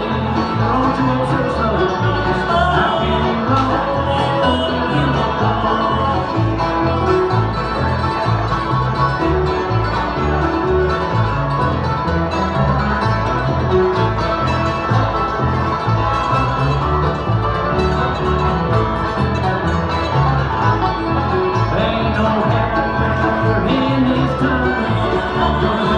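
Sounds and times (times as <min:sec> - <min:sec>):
banjo playing: 0:00.0 - 0:25.9
guitar playing: 0:00.0 - 0:25.9
walking bass line: 0:00.0 - 0:25.9.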